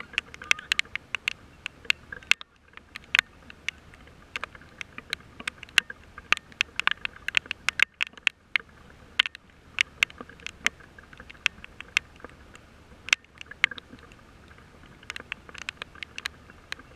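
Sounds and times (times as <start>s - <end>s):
faint steady hiss: 0.0s - 16.9s
raindrops tapping a surface: 0.0s - 16.9s.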